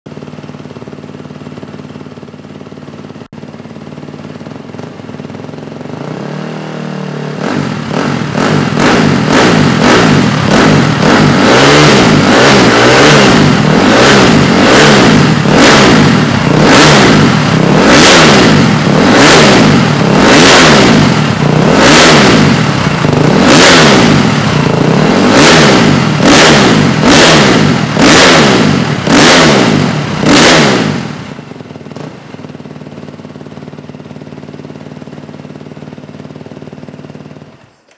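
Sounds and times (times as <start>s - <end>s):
motorcycle engine idling and revving: 0.1s - 37.9s.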